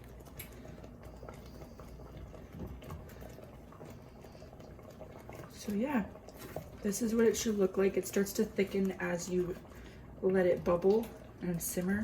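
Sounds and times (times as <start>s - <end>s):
thick sauce bubbling in pot: 0.0s - 12.0s.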